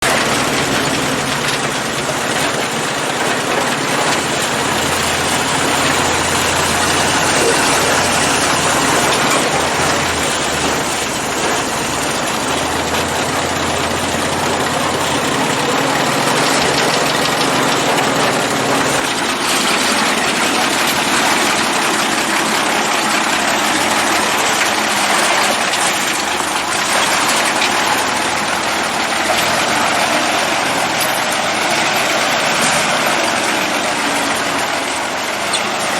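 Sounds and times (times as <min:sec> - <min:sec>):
truck engine running: 0:00.0 - 0:35.9.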